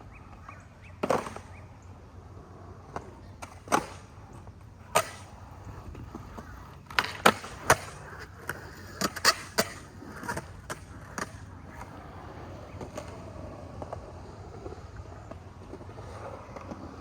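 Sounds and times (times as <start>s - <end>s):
skateboard clacking: 0.0s - 17.0s.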